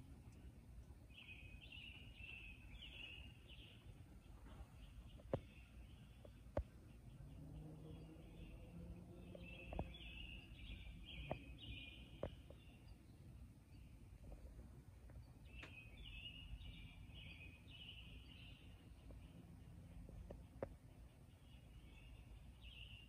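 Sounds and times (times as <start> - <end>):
songbird singing faintly: 0.0 - 23.0.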